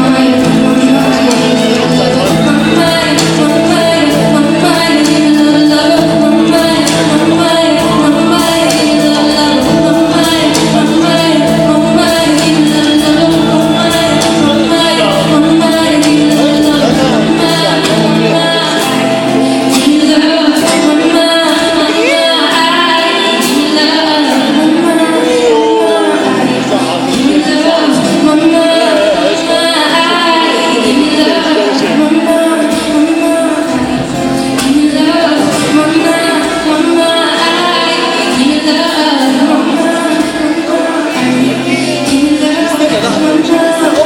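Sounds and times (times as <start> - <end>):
pop music with singing: 0.0 - 44.0.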